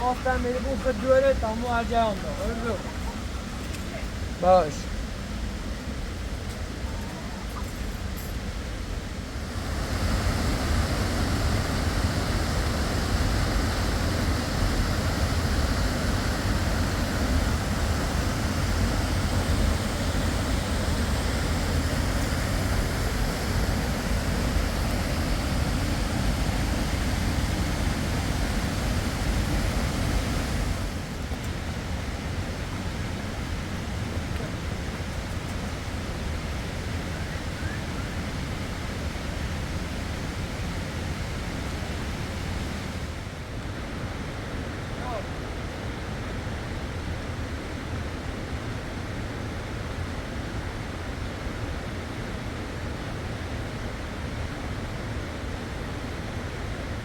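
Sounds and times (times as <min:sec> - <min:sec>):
fast river water rushing: 0:00.0 - 0:57.0.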